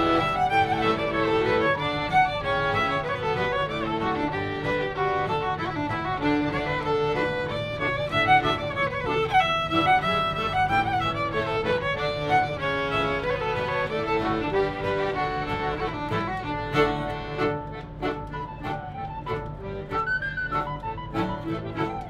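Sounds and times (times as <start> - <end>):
accordion: 0.0 - 22.0
fiddle: 0.0 - 22.0.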